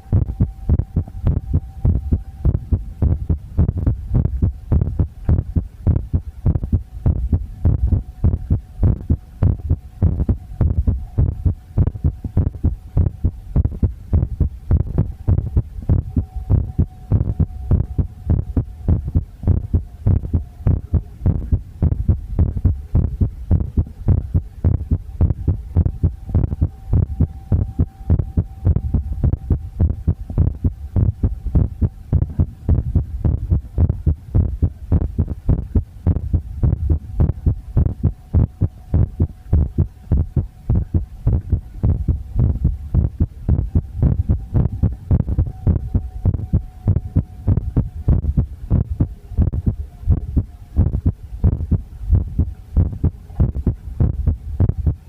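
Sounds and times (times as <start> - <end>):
faint steady hum: 0.0 - 55.0
heartbeat thuds: 0.0 - 55.0.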